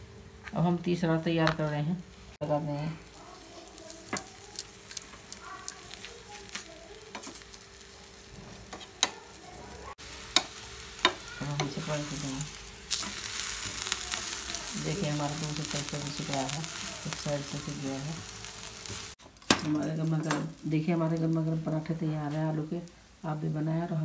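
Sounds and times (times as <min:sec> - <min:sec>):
oil sizzling on a hot pan: 0:00.0 - 0:24.0.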